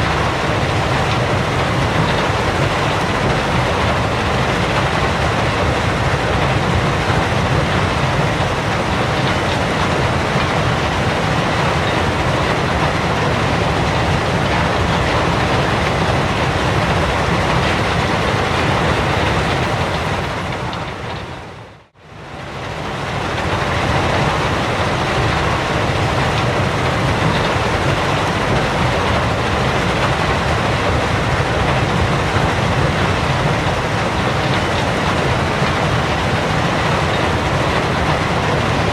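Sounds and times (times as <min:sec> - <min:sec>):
machinery rumbling and rattling: 0:00.0 - 0:38.9.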